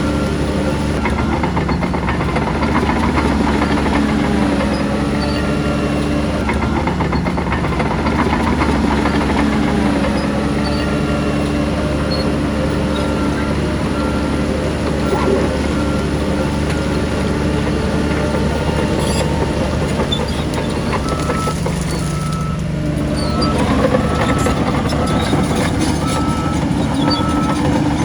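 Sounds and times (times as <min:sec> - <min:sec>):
heavy diesel machinery running: 0:00.0 - 0:28.0.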